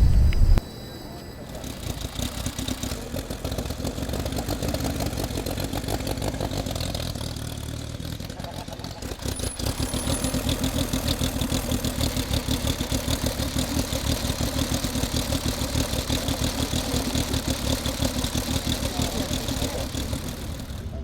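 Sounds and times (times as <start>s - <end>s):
motorcycle engine idling: 0.0s - 0.6s, 1.2s - 21.0s.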